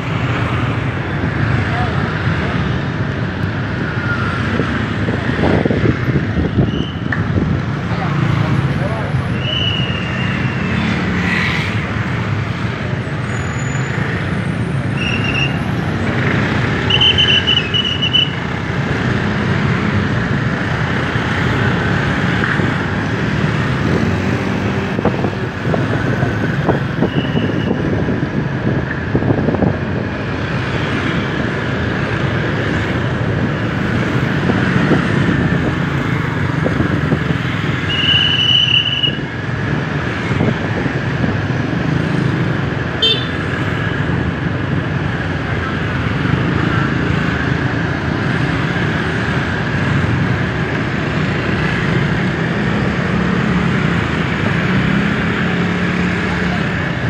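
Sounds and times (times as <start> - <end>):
scooter road noise: 0.0 - 57.0.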